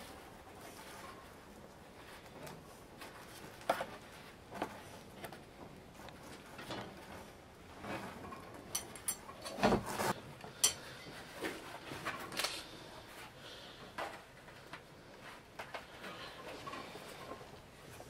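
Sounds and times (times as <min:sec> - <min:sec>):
bamboo basket rustling and creaking: 0:00.0 - 0:18.0.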